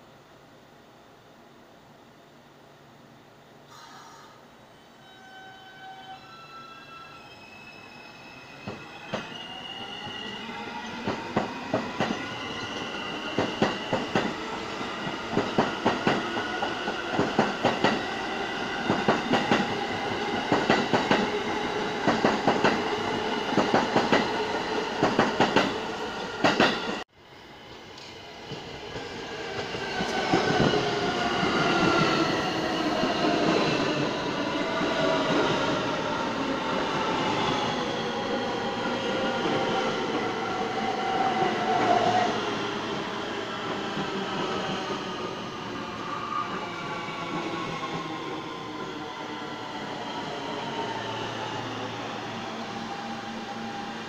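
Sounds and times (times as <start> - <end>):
subway train beside platform: 0.0 - 54.0
subway train passing: 0.0 - 54.0.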